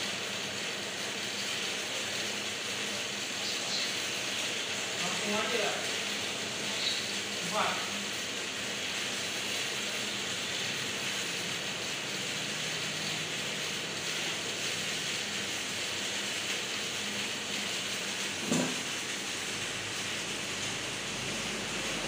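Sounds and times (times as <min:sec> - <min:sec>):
printer fans and carriage whirring: 0:00.0 - 0:22.0.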